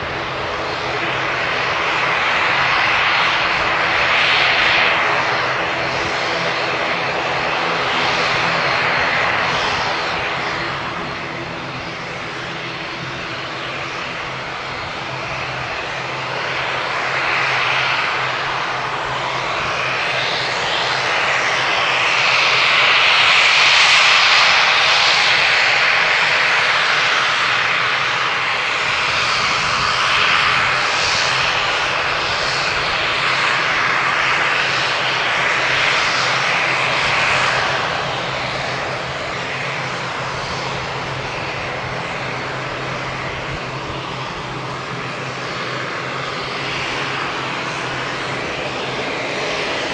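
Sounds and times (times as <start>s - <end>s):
propeller hum: 0.0s - 49.9s.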